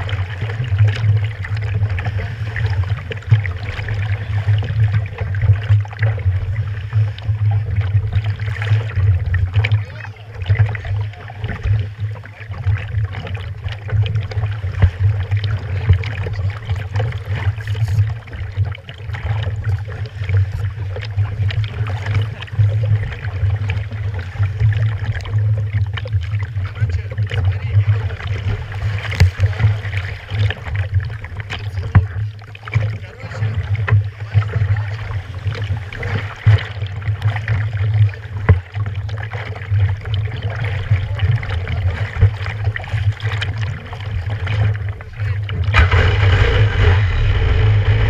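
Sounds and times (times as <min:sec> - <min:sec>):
continuous low rumble: 0:00.0 - 0:48.0
water slapping against hull: 0:00.0 - 0:48.0
water splashes: 0:00.0 - 0:48.0.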